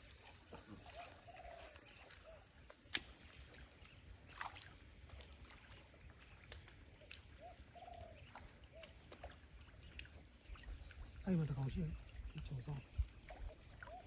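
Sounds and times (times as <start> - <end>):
faint water splashing: 0.0 - 14.0.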